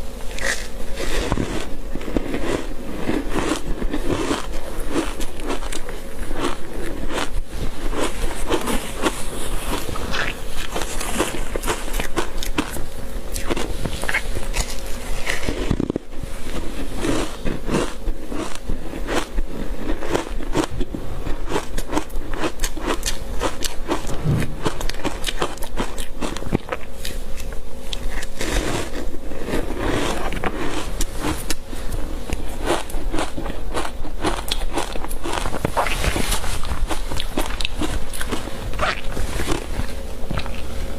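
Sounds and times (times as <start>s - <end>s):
ice crunching being chewed: 0.3s - 40.8s.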